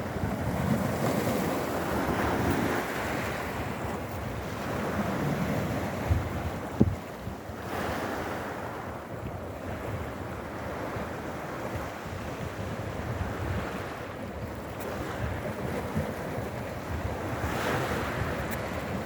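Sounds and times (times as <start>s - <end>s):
sea waves washing over rocks: 0.0s - 19.0s
wind buffeting microphone: 0.0s - 19.0s.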